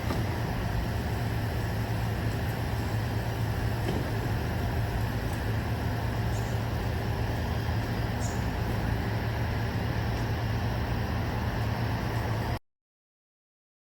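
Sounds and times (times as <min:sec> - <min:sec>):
white noise hiss: 0:00.0 - 0:12.6.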